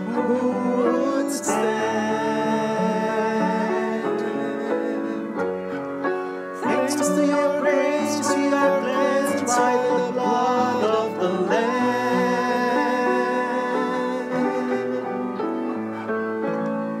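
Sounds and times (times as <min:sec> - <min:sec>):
voices singing in unison: 0:00.0 - 0:05.8, 0:06.6 - 0:16.1
instrumental accompaniment: 0:00.0 - 0:17.0.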